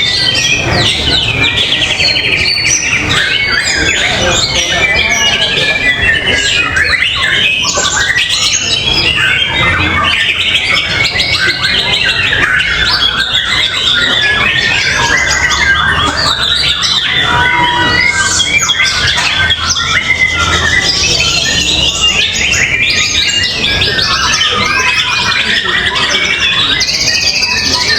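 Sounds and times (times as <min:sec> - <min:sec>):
songbirds whistling and chirping: 0:00.0 - 0:27.9.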